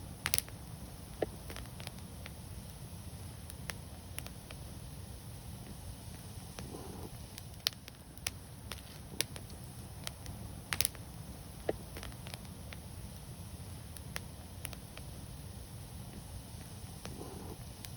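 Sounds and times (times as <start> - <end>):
fire crackling and popping: 0.0 - 17.9.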